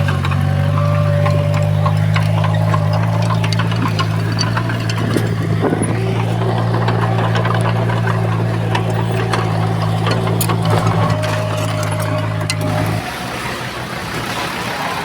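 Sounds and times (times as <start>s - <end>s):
short clicks and clanks: 0.0s - 13.1s
heavy diesel engine running: 0.0s - 15.0s.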